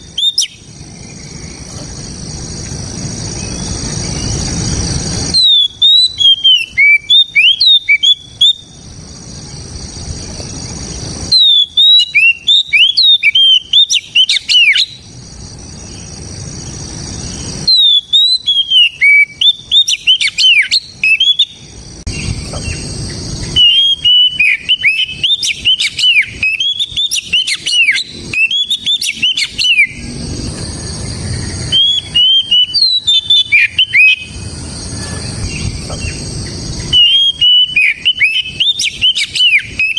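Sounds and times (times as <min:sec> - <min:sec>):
bird singing whistled song: 0:00.0 - 0:02.3, 0:03.2 - 0:39.9.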